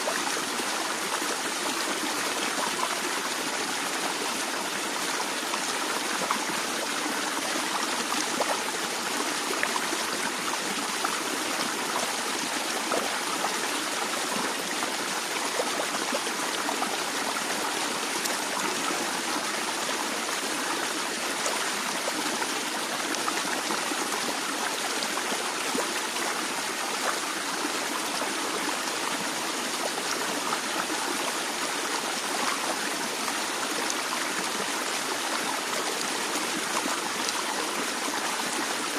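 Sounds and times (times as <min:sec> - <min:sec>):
stream flowing and trickling: 0:00.0 - 0:38.9.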